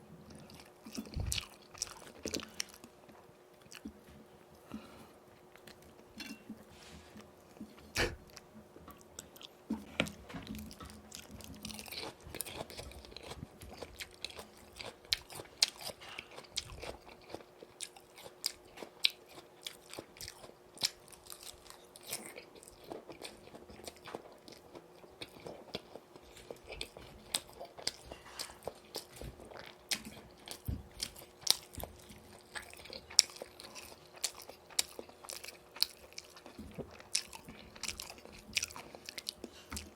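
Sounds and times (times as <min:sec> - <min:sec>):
chewing crispy fried chicken: 0:00.0 - 0:06.2, 0:06.8 - 0:39.9.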